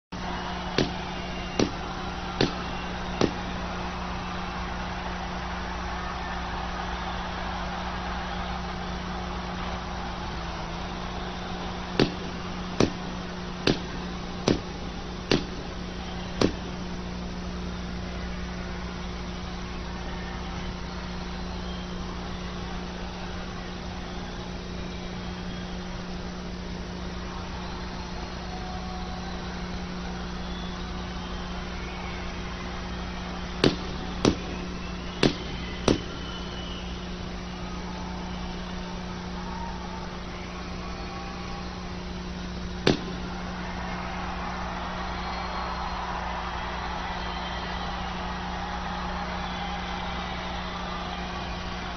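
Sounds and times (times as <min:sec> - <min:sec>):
concert crowd roar: 0:00.1 - 0:51.9
constant low hum: 0:00.2 - 0:51.9.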